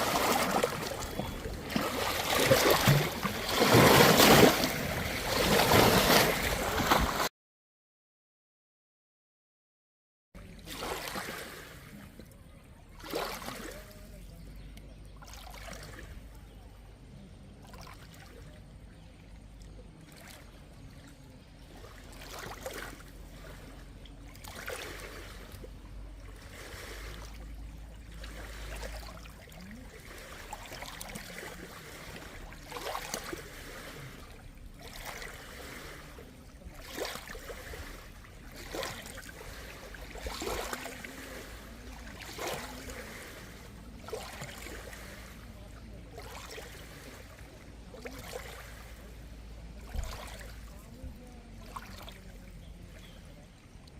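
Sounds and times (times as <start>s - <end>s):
water trickling and gurgling: 0.0s - 7.0s, 10.4s - 53.9s
water splashing: 0.0s - 7.3s, 10.4s - 16.8s, 17.4s - 53.9s.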